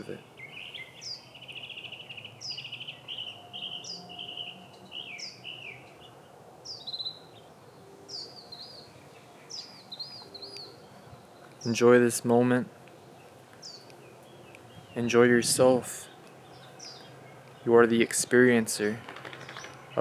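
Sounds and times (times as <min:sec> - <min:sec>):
rapid trilled birdsong: 0:00.0 - 0:20.0.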